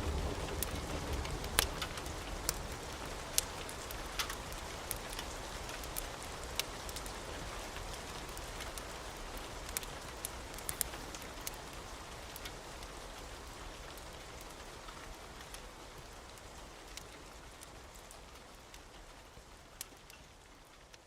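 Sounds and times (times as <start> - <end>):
steady rain: 0.0 - 21.0
wood fire crackling: 0.0 - 21.0.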